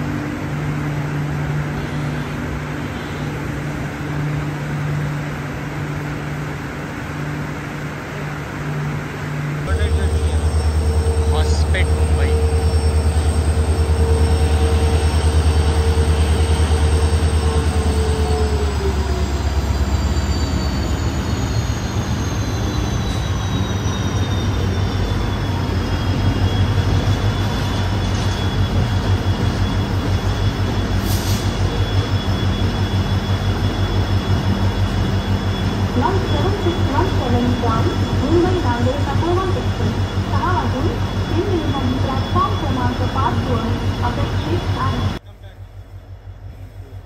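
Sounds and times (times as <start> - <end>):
diesel locomotive engine drone: 0.0 - 47.0.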